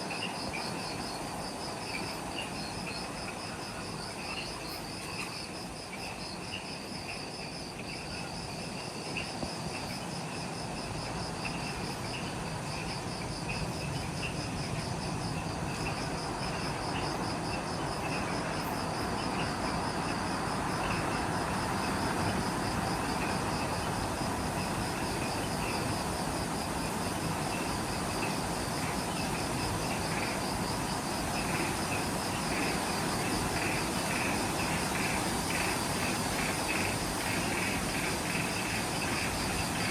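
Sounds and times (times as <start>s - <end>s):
dense insect hiss: 0.0s - 39.9s
high pulsing insect trill: 0.0s - 39.9s.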